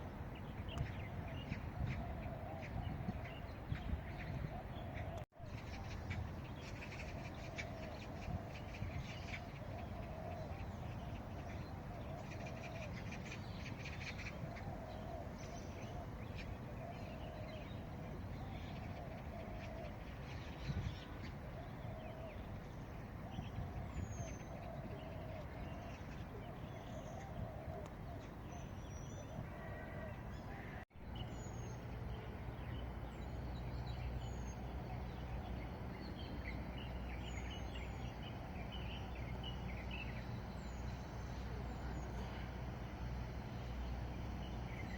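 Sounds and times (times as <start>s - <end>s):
steady low background rumble: 0.0s - 44.9s.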